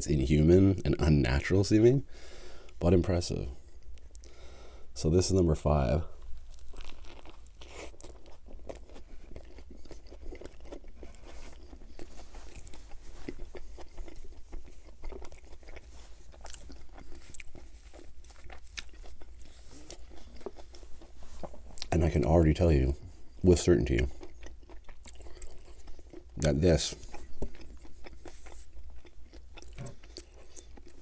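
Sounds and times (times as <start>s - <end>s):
person chewing food: 3.6s - 4.6s, 6.1s - 22.2s, 23.0s - 31.0s.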